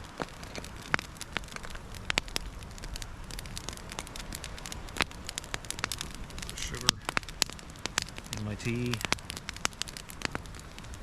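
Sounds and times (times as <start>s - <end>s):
campfire crackling and popping: 0.0s - 11.0s
low hiss of burning: 0.0s - 11.0s.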